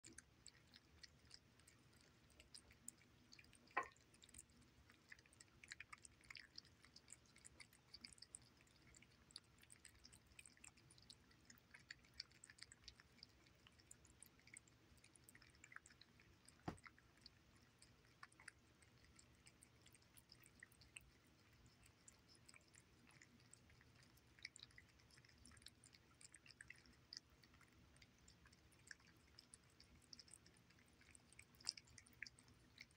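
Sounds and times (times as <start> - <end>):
cats chewing and lapping wet food: 0.0 - 32.9.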